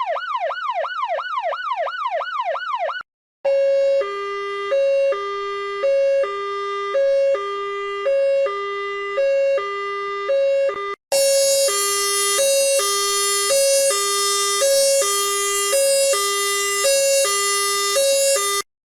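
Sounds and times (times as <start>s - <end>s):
two-tone emergency vehicle siren: 0.0s - 18.7s.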